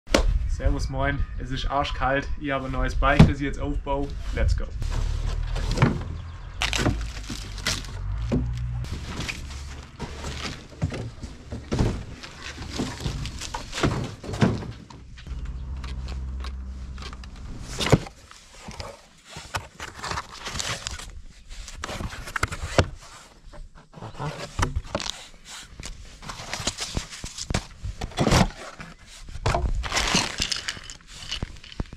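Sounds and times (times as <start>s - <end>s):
bike and packaging being handled: 4.8s - 23.5s, 24.4s - 31.9s.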